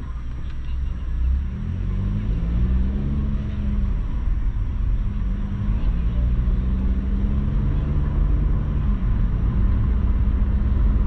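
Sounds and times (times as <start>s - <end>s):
car engine accelerating: 0.0s - 11.0s
road rumble: 0.0s - 11.0s.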